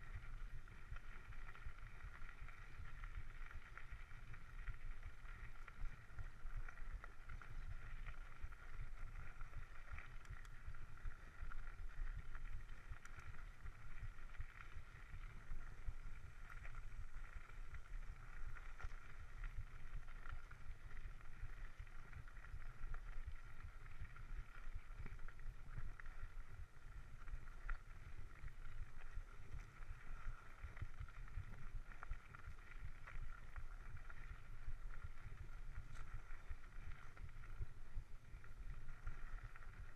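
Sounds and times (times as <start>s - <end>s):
small rattles and clicks: 0.0s - 39.9s.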